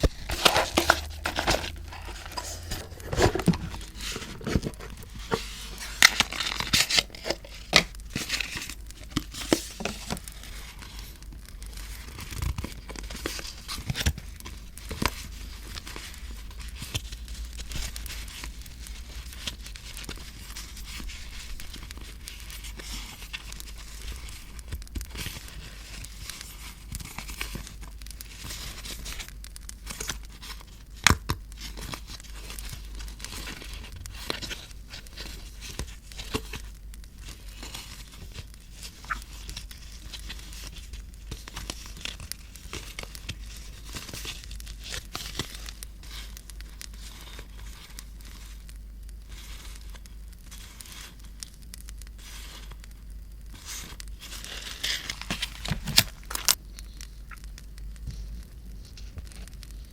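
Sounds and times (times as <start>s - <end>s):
paper crinkling and tearing: 0.0s - 52.8s, 53.5s - 56.6s.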